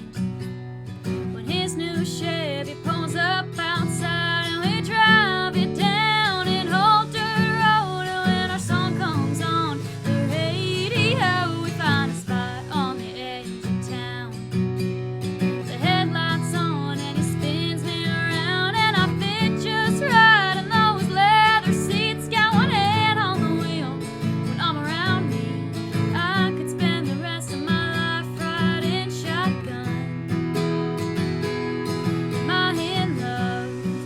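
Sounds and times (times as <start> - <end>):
strummed acoustic guitar: 0.0 - 34.0
person singing country song: 1.0 - 34.0.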